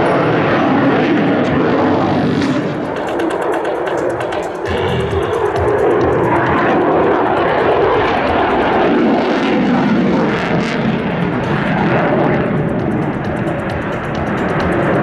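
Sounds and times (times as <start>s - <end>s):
airplane engine noise: 0.0s - 15.0s.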